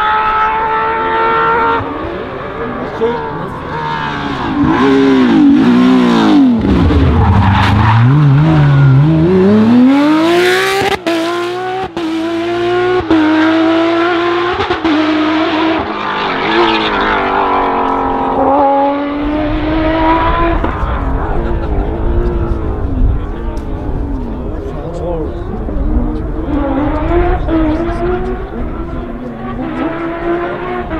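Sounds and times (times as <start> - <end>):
car engine at high revs: 0.0 - 30.9.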